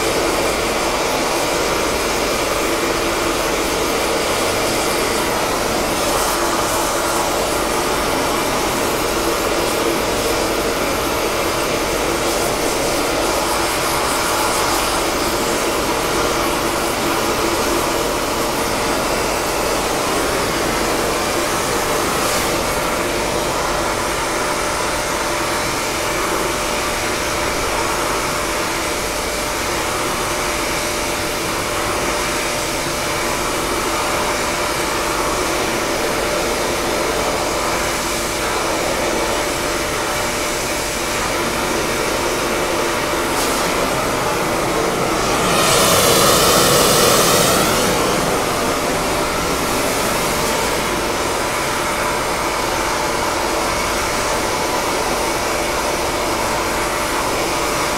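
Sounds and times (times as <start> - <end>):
welding torch flame hissing: 0.0 - 24.9, 32.0 - 54.5.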